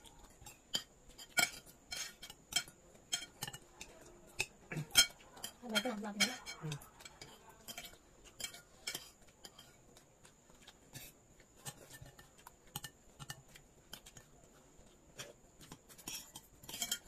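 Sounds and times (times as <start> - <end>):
cutlery clinking on plates: 0.0 - 9.8, 10.9 - 14.3, 15.2 - 17.0.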